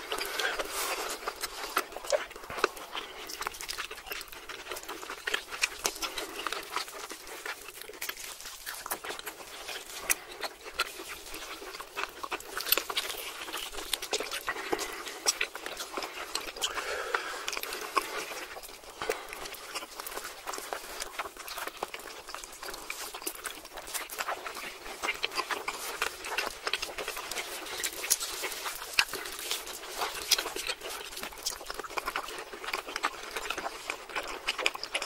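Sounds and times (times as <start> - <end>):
close chewing and mouth smacks: 0.0 - 35.0.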